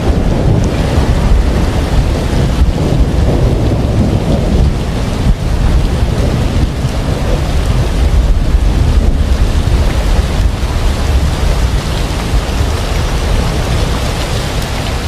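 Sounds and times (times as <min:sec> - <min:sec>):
rain falling: 0:00.0 - 0:15.0
rumble of thunder: 0:00.0 - 0:15.0.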